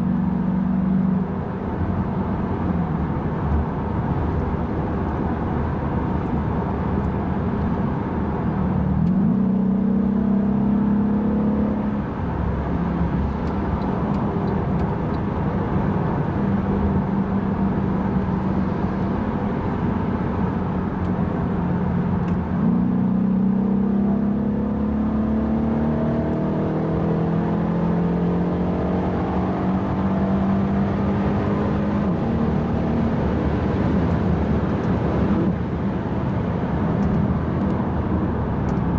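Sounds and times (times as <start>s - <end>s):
car engine accelerating: 0.0s - 38.9s
road and tyre noise: 0.0s - 38.9s.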